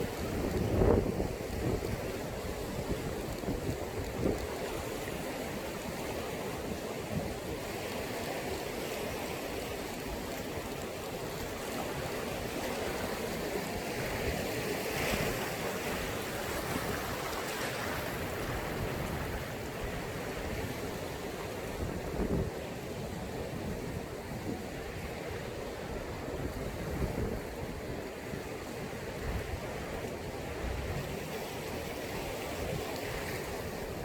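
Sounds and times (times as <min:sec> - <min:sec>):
sea waves washing ashore: 0:00.0 - 0:34.0.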